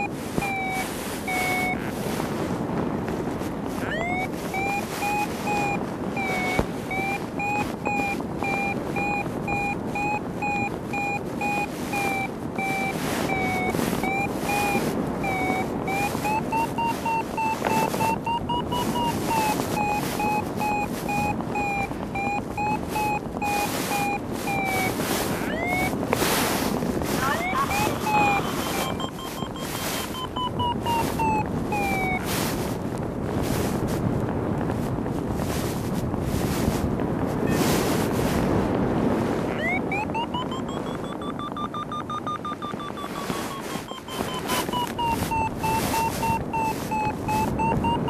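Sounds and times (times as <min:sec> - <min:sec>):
variometer beeping: 0:00.0 - 0:02.1, 0:03.7 - 0:32.6, 0:39.5 - 0:48.0
wind rushing over microphone: 0:00.0 - 0:48.0.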